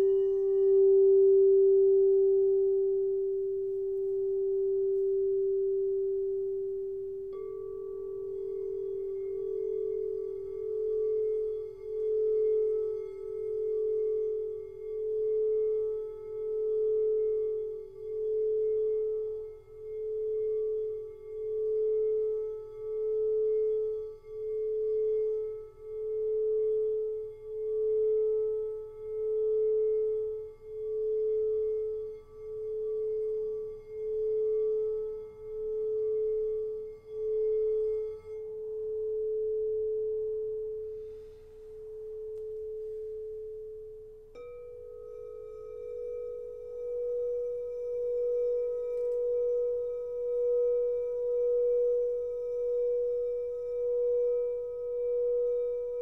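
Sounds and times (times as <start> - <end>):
higher singing bowl tone: 0.0 - 56.0
singing bowl sustained tone: 0.0 - 56.0.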